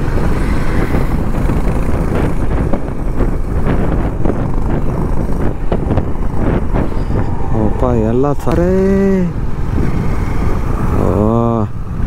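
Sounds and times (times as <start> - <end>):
motorcycle engine and traffic noise: 0.0 - 12.0
wind rushing over microphone: 0.0 - 12.0.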